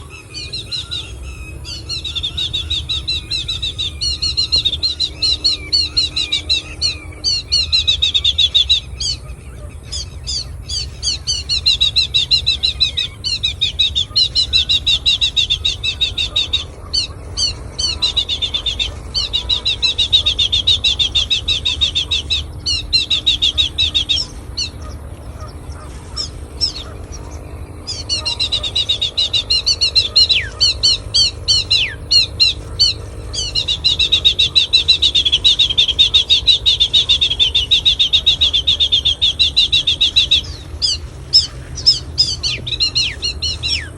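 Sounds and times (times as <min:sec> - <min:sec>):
flock of birds chirping: 0:00.0 - 0:43.9.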